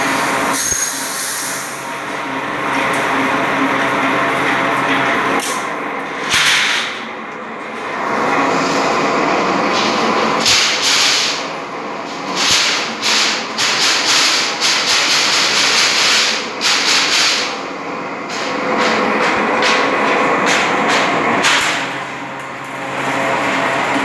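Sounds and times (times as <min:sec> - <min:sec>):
machine clatter and hiss: 0:00.0 - 0:07.1, 0:07.8 - 0:24.0.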